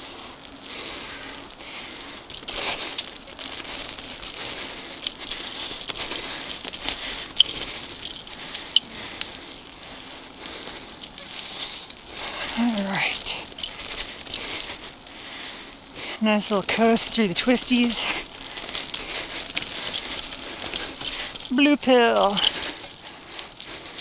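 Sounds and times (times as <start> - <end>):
bike clicking and rattling: 0.0 - 24.0
bike tyres crackling on leaves: 0.0 - 24.0.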